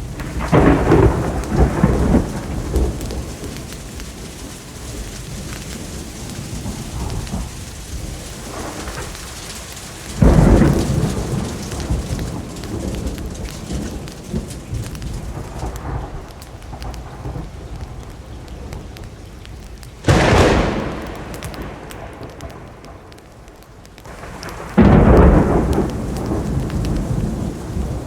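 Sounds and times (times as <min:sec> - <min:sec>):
steady rainfall: 0:00.0 - 0:28.0
thunder claps rumbling: 0:00.0 - 0:28.0.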